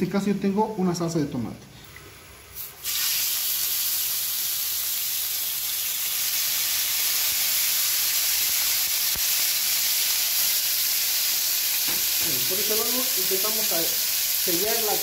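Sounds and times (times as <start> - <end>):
meat sizzling in hot oil: 2.5 - 15.0.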